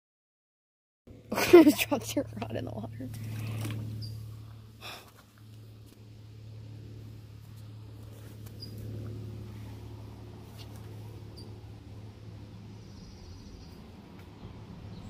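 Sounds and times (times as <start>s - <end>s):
steady low hum: 1.1s - 15.0s.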